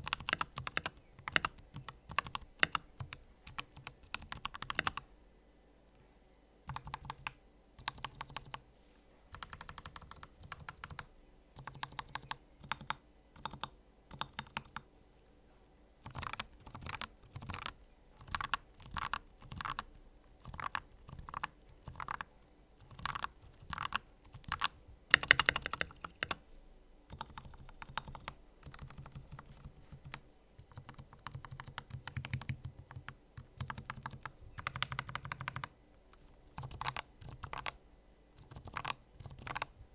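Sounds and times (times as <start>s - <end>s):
mechanical keyboard typing: 0.0s - 5.0s, 6.7s - 8.6s, 9.3s - 14.8s, 16.0s - 26.4s, 27.1s - 35.7s, 36.5s - 37.8s, 38.4s - 39.7s.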